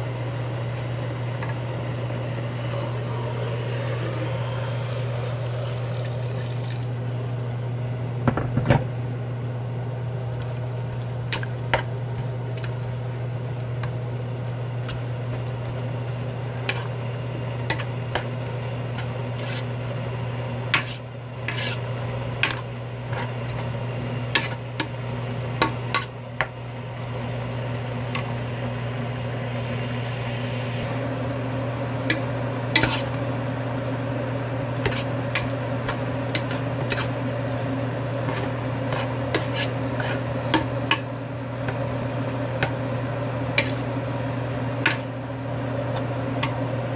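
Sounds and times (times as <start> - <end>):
low hum: 0.0 - 6.0, 8.9 - 46.9.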